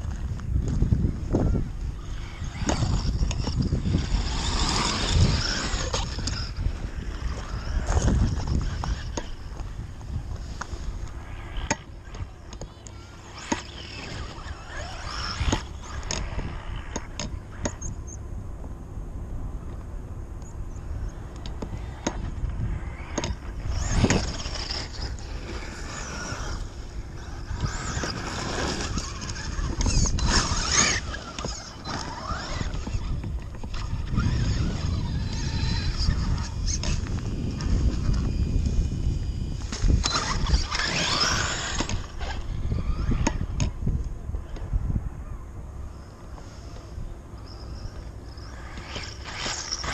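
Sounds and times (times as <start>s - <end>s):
rc truck motor whine: 0.0s - 18.2s, 20.4s - 49.9s.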